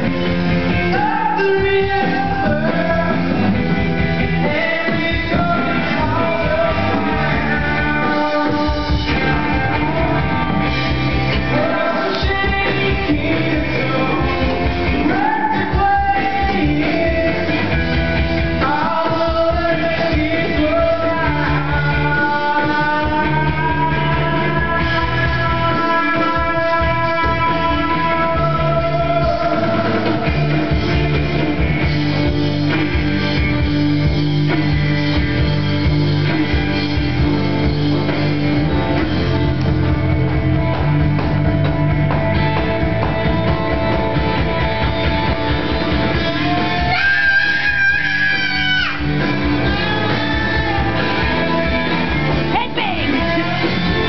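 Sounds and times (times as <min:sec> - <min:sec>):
rock guitar and drums: 0:00.0 - 0:54.0.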